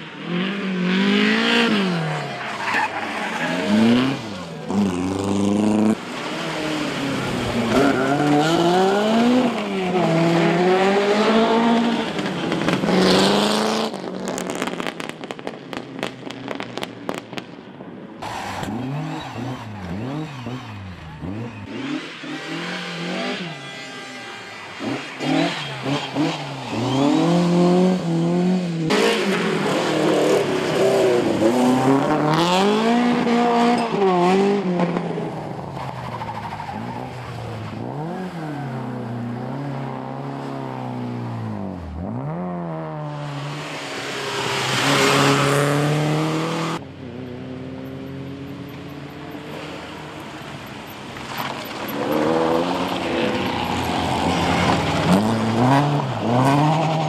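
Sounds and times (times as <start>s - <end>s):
rally car engines revving: 0.0s - 14.6s, 18.2s - 57.0s.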